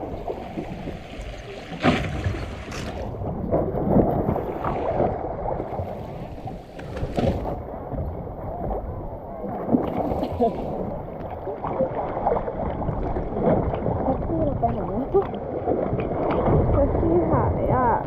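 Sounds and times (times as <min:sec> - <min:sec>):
sea water rushing: 0:00.0 - 0:18.0.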